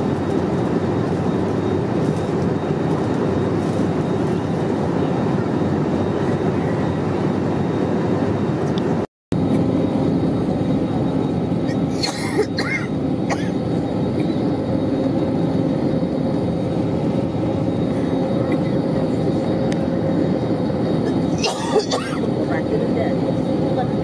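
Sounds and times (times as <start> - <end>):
airplane cabin noise: 0.0 - 24.0.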